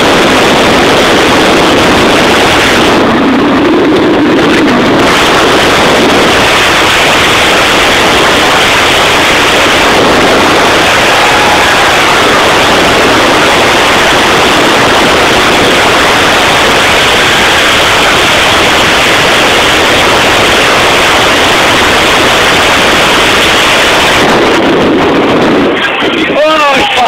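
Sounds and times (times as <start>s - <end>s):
wind blasting microphone: 0.0s - 27.0s.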